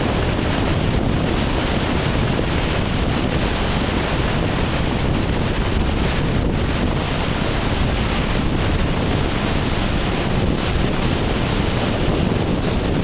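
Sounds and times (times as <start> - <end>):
wind blowing over microphone: 0.0 - 13.0.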